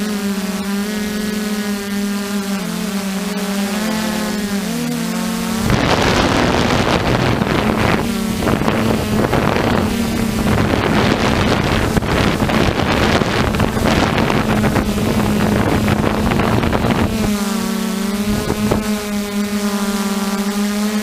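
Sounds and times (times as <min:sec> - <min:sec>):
drone motors whining: 0:00.0 - 0:21.0
wind buffeting microphone: 0:03.2 - 0:21.0.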